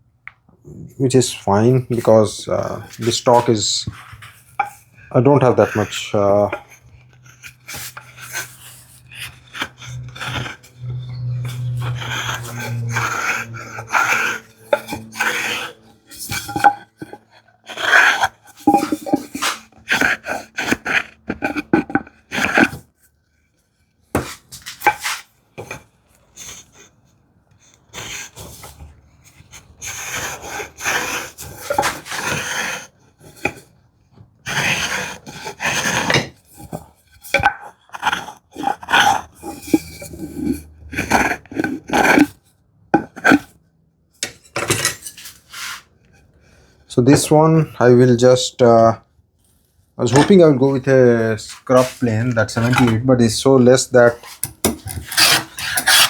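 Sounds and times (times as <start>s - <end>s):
hand plane scraping wood: 1.0s - 22.8s, 24.2s - 26.8s, 27.9s - 33.7s, 34.4s - 42.4s, 43.0s - 43.6s, 44.3s - 48.9s, 50.0s - 56.0s.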